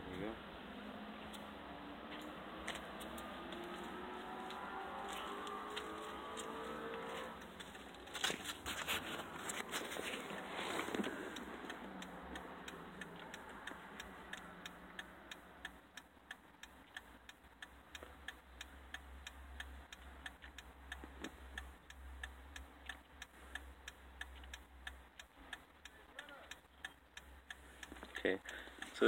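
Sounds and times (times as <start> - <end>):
turn signal clicking: 2.2 - 8.1, 9.2 - 29.0.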